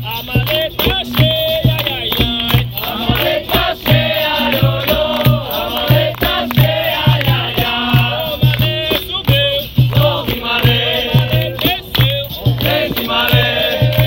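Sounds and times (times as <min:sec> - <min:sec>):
low drum beat: 0:00.0 - 0:14.0
sharp percussion strokes: 0:00.0 - 0:14.0
group singing in chorus: 0:00.1 - 0:14.0.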